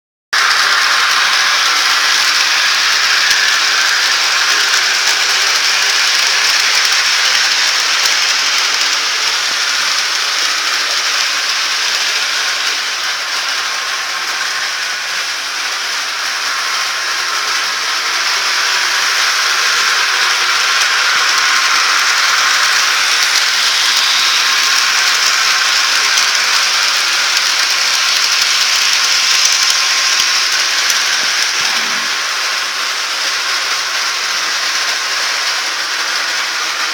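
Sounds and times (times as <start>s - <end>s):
model train rattling on track: 0.4s - 36.9s.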